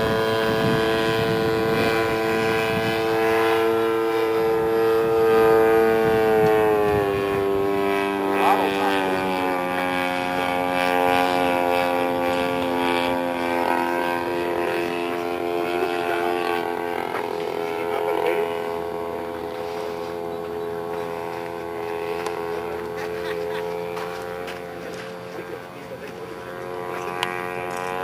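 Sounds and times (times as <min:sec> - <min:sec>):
model plane engine running: 0:00.0 - 0:28.0.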